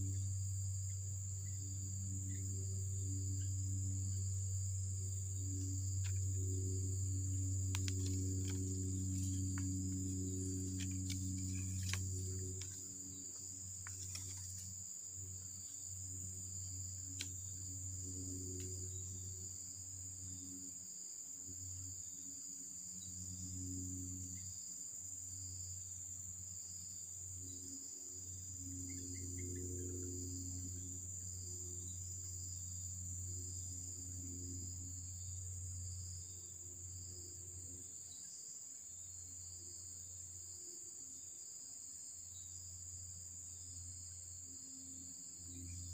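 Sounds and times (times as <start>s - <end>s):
low droning hum: 0.0s - 41.4s, 42.0s - 45.9s
insects chirring: 0.0s - 45.9s.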